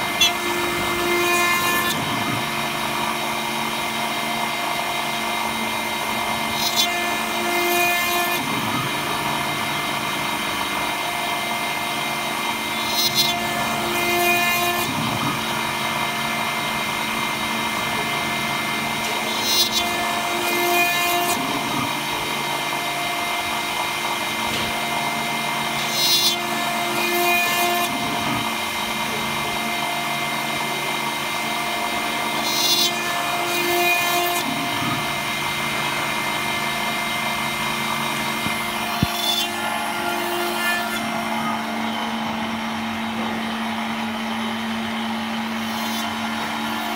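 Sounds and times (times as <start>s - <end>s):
end mill cutting metal: 0.0s - 46.9s
milling machine spindle running: 0.0s - 46.9s.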